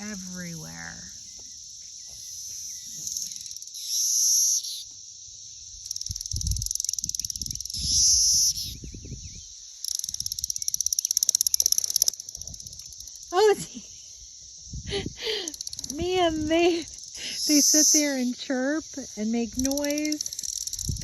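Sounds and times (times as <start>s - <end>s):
cicadas buzzing: 0.0s - 21.0s
pulsing cicada calls: 0.0s - 21.0s.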